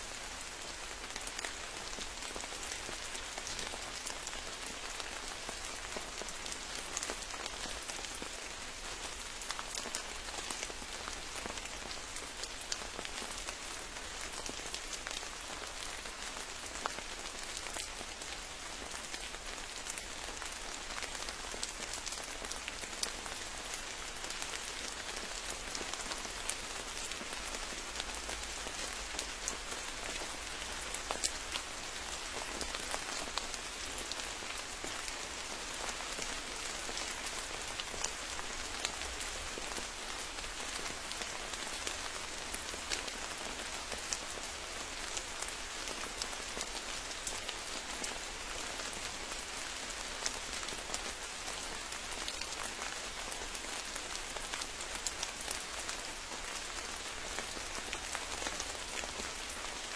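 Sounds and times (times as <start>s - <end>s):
rain falling: 0.0s - 59.9s
raindrops ticking and pattering: 0.0s - 59.9s.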